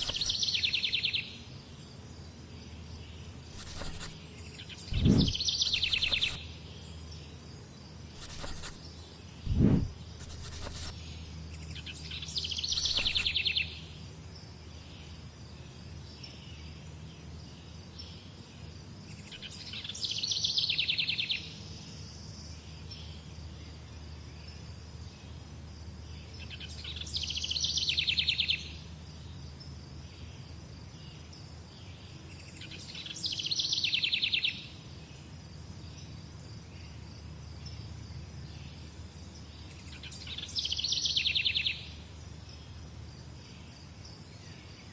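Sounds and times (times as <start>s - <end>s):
songbird trill: 0.0s - 44.9s.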